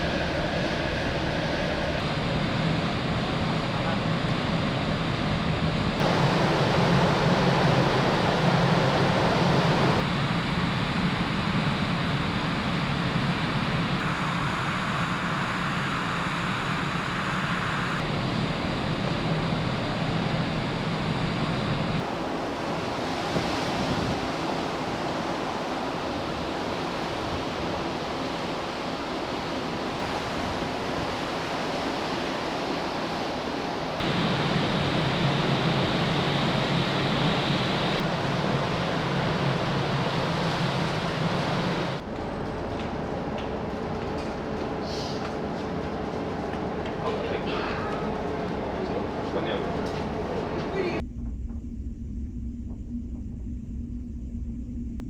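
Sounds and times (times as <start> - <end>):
rushing sea: 0.0 - 51.0
low ship hum: 0.0 - 55.0
wind: 0.0 - 55.0.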